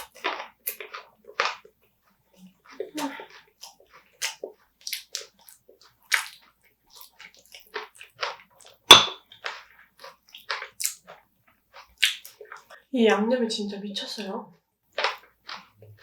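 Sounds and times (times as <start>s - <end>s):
crab shell crunching when chewed: 0.0s - 12.8s, 14.9s - 16.0s.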